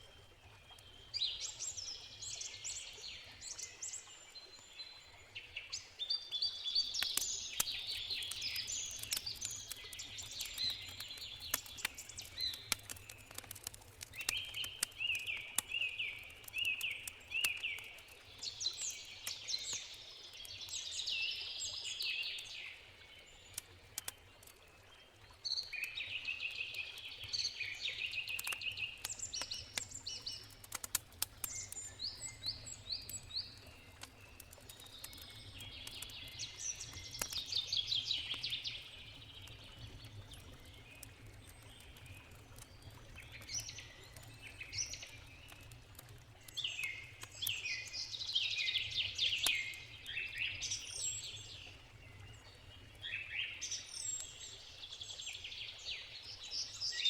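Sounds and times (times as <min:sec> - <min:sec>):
songbirds singing: 0:00.0 - 0:57.0
campfire crackling and popping: 0:06.5 - 0:56.9.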